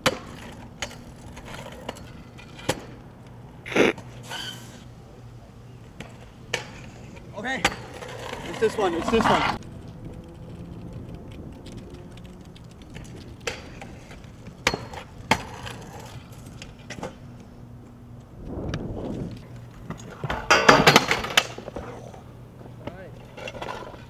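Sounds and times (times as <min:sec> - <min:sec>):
rolling rumble: 0:00.0 - 0:04.2, 0:05.0 - 0:24.0.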